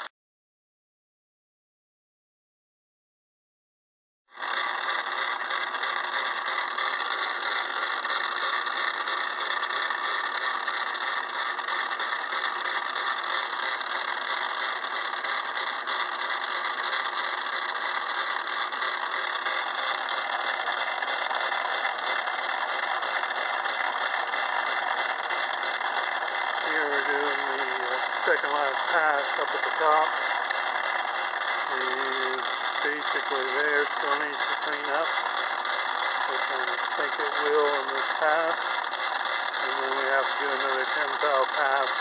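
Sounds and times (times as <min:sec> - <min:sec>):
lathe machining steel: 0:04.4 - 0:42.0.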